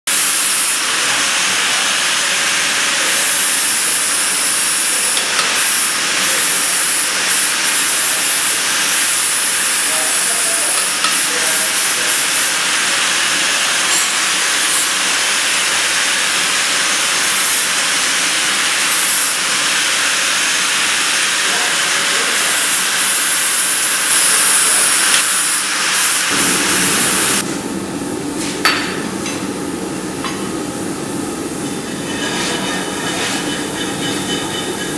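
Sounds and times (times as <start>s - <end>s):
forge hissing: 0.1s - 29.0s.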